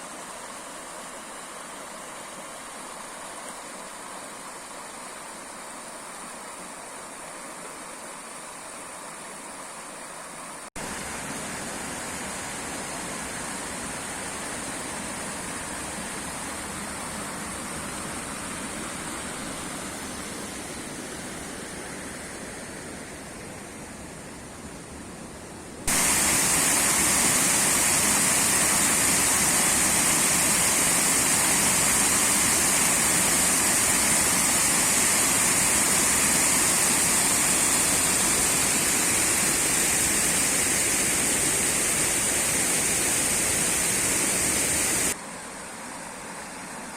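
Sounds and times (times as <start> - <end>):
water rushing down falls: 0.0 - 23.9, 25.9 - 45.2.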